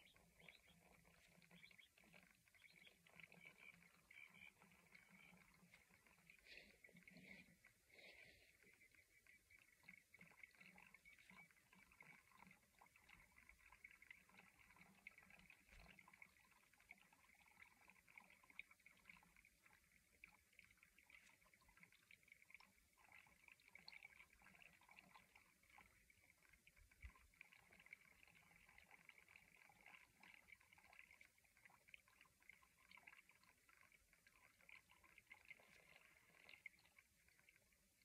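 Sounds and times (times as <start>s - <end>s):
water trickling into filter: 0.0s - 38.0s.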